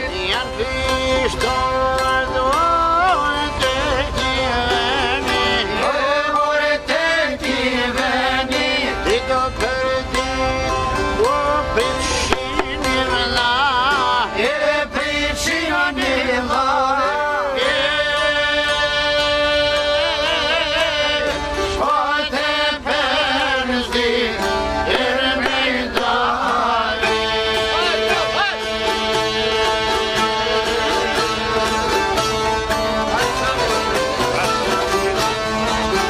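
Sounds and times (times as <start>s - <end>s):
folk music with accordion and lutes: 0.0s - 36.0s.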